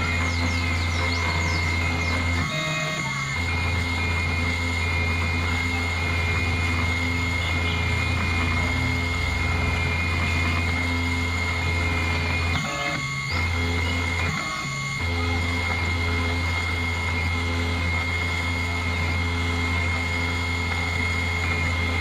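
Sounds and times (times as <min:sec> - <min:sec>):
router spindle high whine: 0:00.0 - 0:22.0
stepper motor tones: 0:00.0 - 0:22.0.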